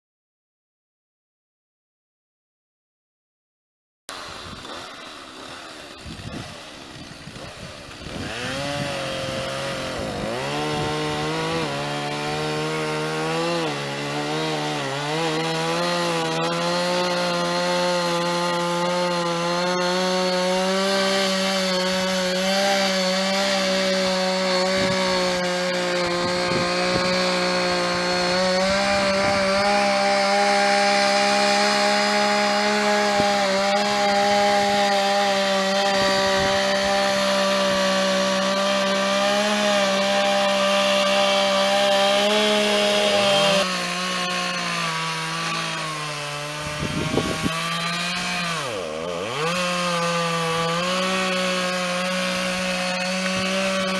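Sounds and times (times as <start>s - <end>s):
chainsaw cutting wood: 4.1s - 53.9s.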